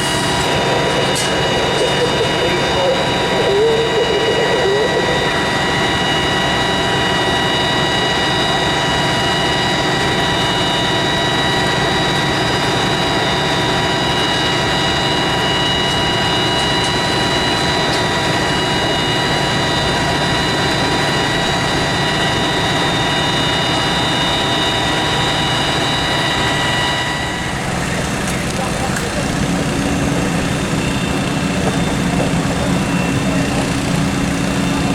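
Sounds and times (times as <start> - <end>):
heavy engine roaring: 0.0 - 34.9
high whine: 0.0 - 34.9.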